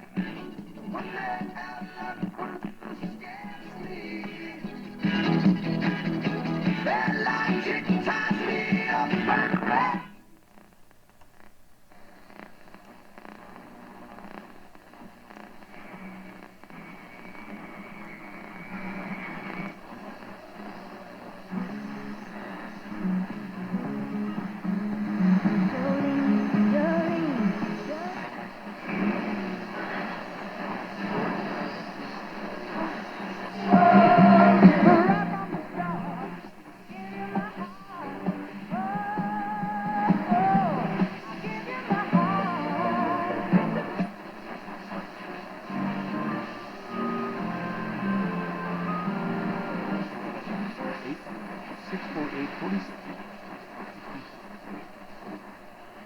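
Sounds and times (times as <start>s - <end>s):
music from radio station: 0.0s - 56.0s
radio static and hiss: 0.0s - 56.0s.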